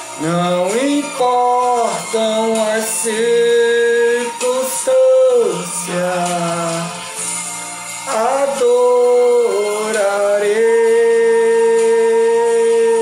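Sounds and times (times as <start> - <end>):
man singing into a microphone: 0.2 - 7.2, 8.0 - 13.0.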